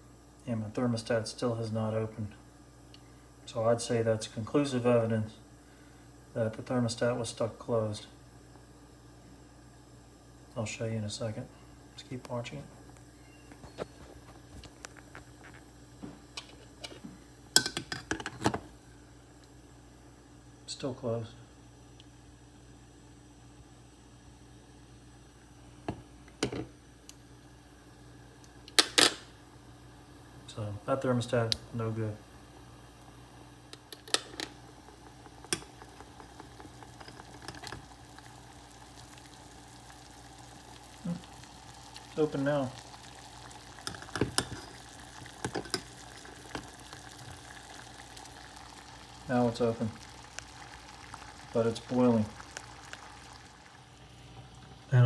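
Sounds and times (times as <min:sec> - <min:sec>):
water boiling in saucepan: 0:00.0 - 0:55.0.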